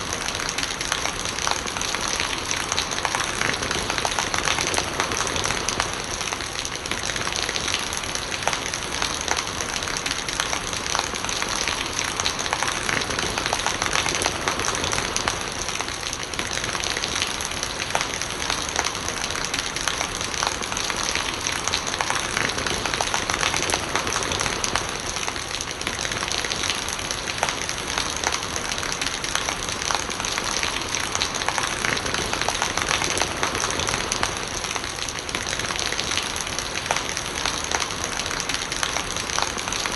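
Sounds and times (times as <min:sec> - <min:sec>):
rainwater running and gurgling: 0:00.0 - 0:39.9
steady rain falling: 0:00.0 - 0:39.9.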